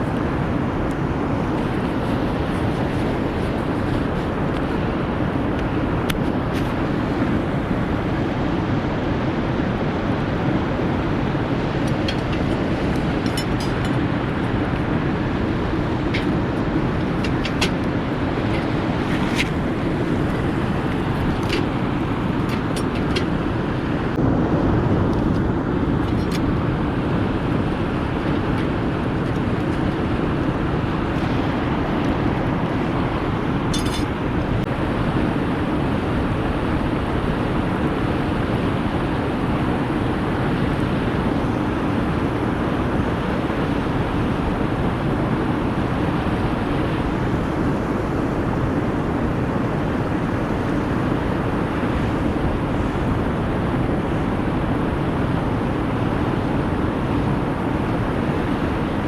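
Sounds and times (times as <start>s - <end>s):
loud steady rushing noise: 0.0s - 59.0s.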